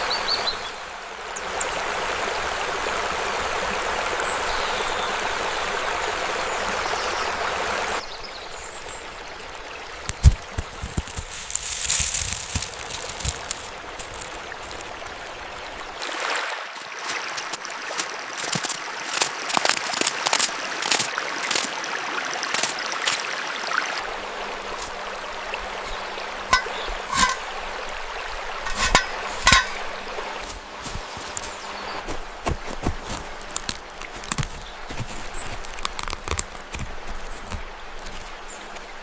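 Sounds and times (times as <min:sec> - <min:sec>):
stream trickling and gurgling: 0:00.0 - 0:39.0.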